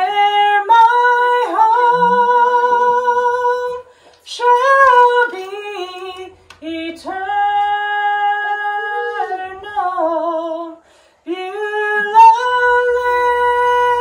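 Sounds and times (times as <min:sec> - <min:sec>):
woman singing gospel: 0:00.0 - 0:14.0.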